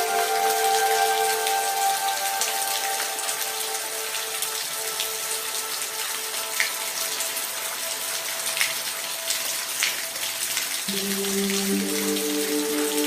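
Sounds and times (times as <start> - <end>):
raindrops splashing: 0.0 - 13.0
soft background music: 0.0 - 13.0
steady rain hiss: 0.0 - 13.0.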